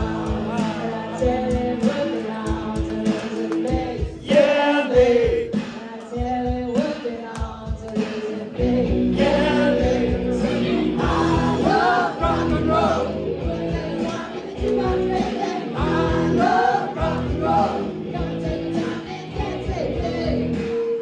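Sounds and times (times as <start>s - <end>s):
woman singing: 0.0s - 4.5s, 5.4s - 12.6s, 13.6s - 21.0s
rock band playing: 0.0s - 6.8s, 7.6s - 21.0s.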